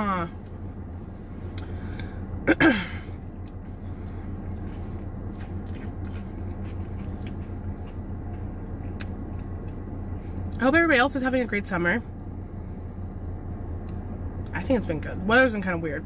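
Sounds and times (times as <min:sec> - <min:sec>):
low hum inside car: 0:00.0 - 0:16.0.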